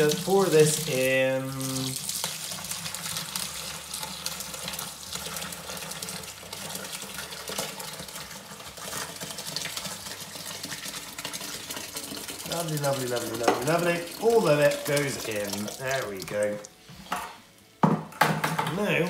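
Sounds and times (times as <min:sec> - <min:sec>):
liquid splashing pour: 0:00.0 - 0:16.7.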